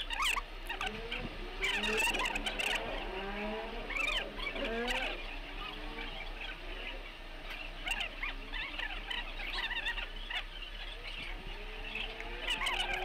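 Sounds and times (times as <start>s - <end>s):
small animals chirping and squeaking: 0.0s - 13.0s.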